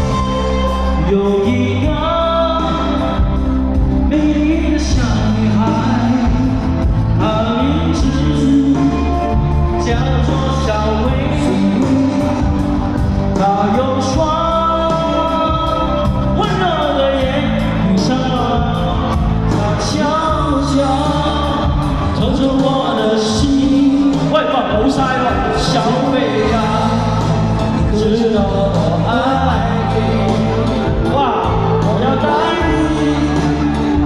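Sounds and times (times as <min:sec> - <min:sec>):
person singing: 0:00.0 - 0:34.0
pop-rock band music: 0:00.0 - 0:34.0.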